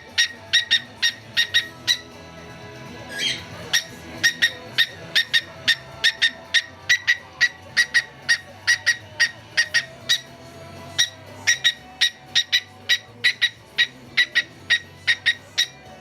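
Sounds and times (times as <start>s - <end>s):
cockatiel chirping: 0.0s - 2.1s, 3.1s - 10.3s, 11.0s - 15.9s
faint background music: 0.0s - 16.0s.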